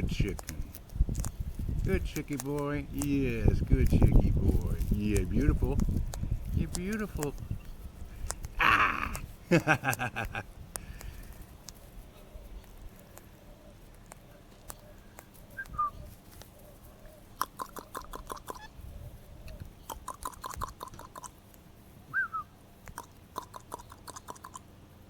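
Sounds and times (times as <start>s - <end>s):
parrots cracking seed: 0.0s - 18.7s, 19.8s - 21.7s, 22.8s - 24.7s.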